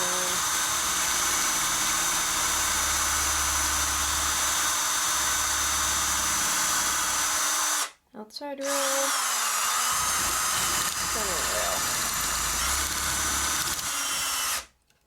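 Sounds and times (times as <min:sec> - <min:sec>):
electric drill boring metal: 0:00.0 - 0:07.9, 0:08.6 - 0:14.7.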